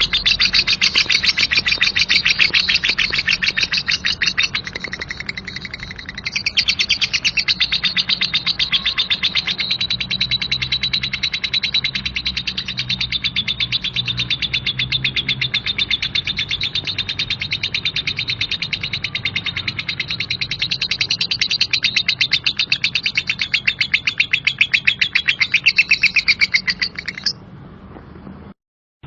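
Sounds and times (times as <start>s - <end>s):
lovebird chattering trill: 0.0s - 27.4s.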